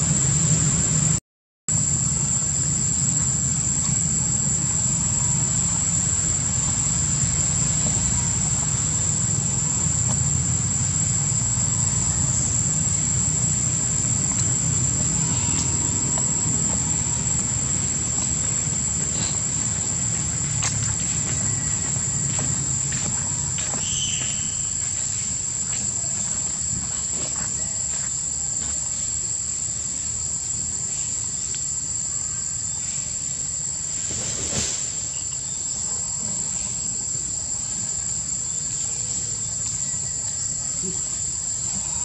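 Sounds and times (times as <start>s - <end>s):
insects buzzing: 0.0s - 42.0s.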